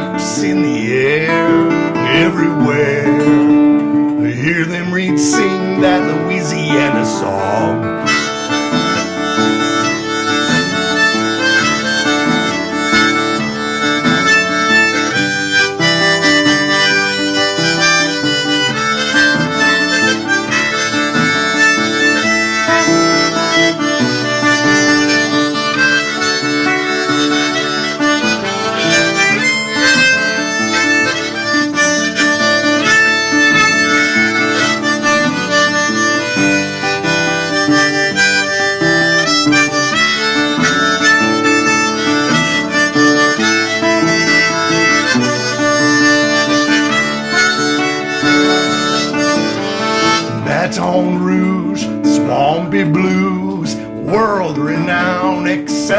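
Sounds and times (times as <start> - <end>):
harmonica playing: 0.0 - 55.9.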